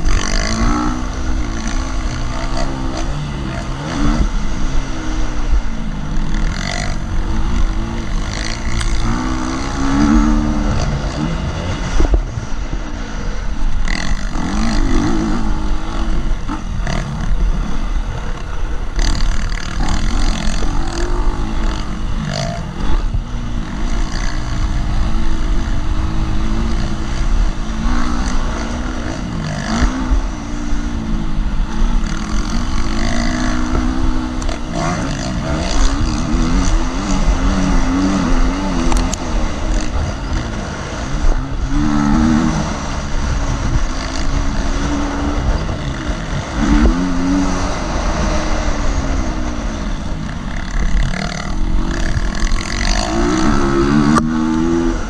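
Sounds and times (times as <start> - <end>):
motorcycle engine revving: 0.0 - 55.0
wind on microphone: 0.0 - 55.0.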